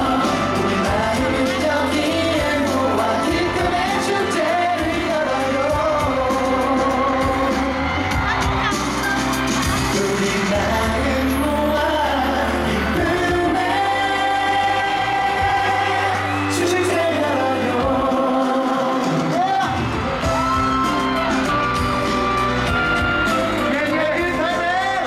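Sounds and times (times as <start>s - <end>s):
live pop song over sound system: 0.0s - 25.0s.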